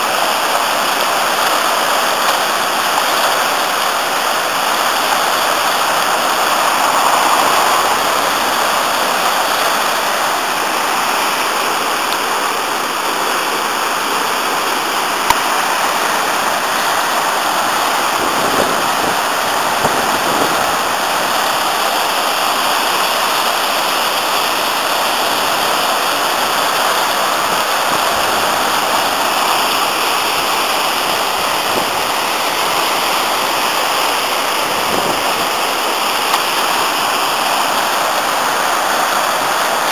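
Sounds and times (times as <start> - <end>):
water pouring over rocks: 0.0 - 39.9.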